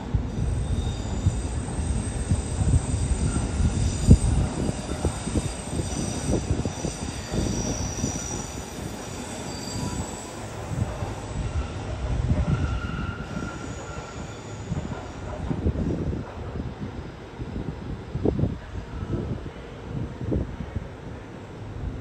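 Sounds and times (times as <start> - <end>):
train wheels squealing on rails: 0.0 - 19.9
train rumble: 0.0 - 22.0.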